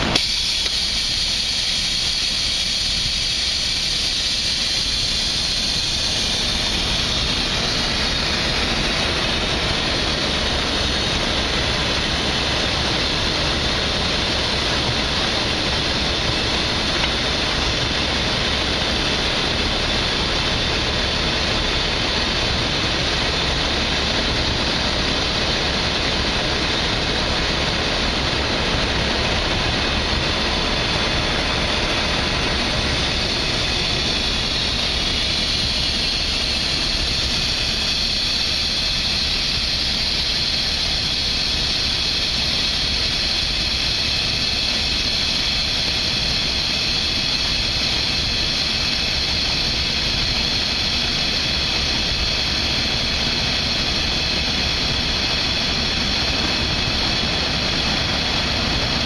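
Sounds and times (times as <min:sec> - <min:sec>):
conveyor machinery rumble: 0:00.0 - 0:59.0.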